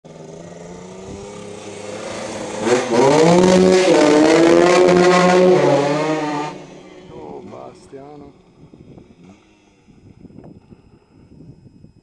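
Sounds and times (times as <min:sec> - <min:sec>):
two-stroke motorcycle accelerating: 0:00.0 - 0:10.9.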